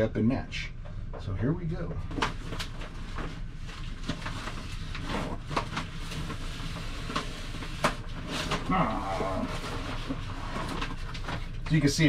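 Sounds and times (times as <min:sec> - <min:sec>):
steady low hum: 0:00.0 - 0:12.0
wallpaper rustling and crackling: 0:02.0 - 0:12.0.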